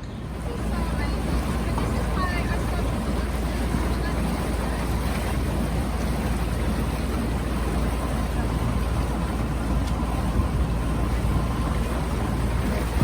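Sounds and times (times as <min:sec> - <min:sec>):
motorboat engine rumbling: 0:00.0 - 0:13.0
rushing water: 0:00.0 - 0:13.0.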